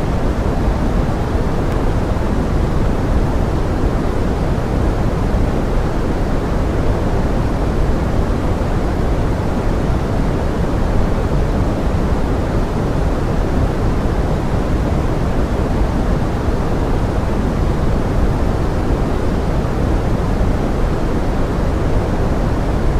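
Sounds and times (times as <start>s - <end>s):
pink noise hiss: 0.0s - 22.9s.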